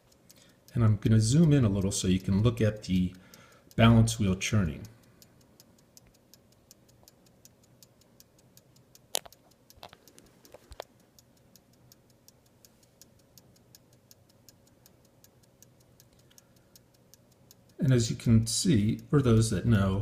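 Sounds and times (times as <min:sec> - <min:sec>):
pocket watch ticking: 0:00.0 - 0:20.0.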